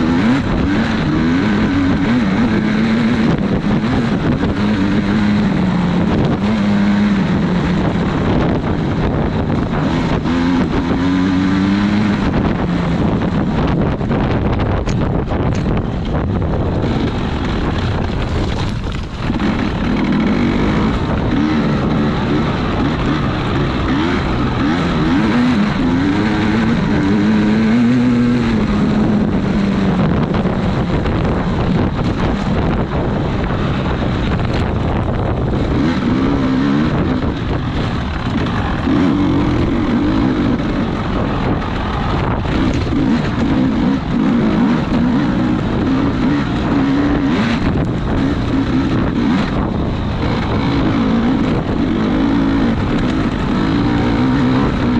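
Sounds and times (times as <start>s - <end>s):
racing engine revving: 0.0s - 54.9s.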